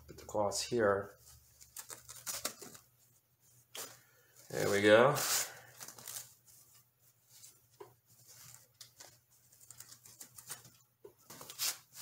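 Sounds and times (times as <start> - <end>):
cloth rustling: 1.0 - 12.0.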